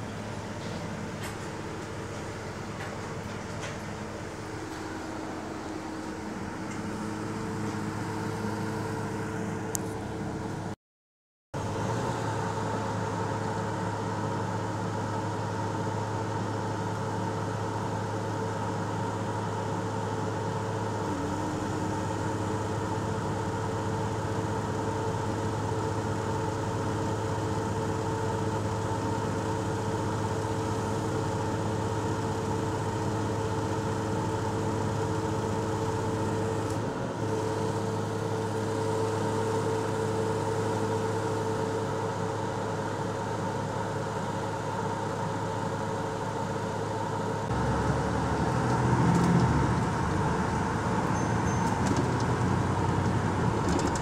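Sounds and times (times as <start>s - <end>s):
bus engine hum: 0.0s - 10.8s, 11.6s - 54.0s.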